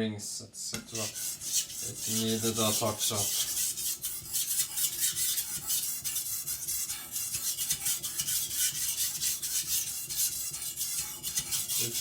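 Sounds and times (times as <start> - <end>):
blade scraping on whetstone: 0.8 - 12.0.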